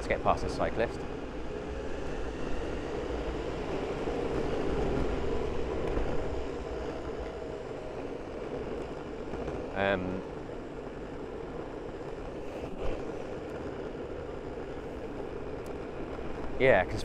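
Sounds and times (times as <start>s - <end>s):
electric skateboard rolling: 0.0s - 17.0s.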